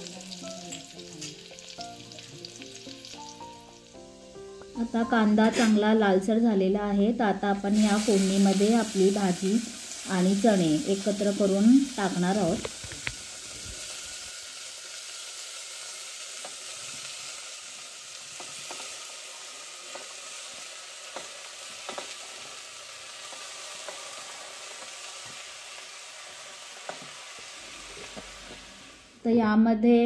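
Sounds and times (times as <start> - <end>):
food sizzling in hot oil: 0.0 - 6.4, 7.0 - 29.3.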